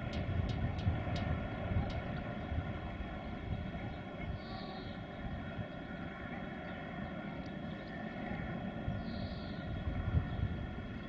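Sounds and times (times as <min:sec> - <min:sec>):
distant engine drone: 0:00.0 - 0:11.0
low uneven rumble: 0:00.0 - 0:11.0.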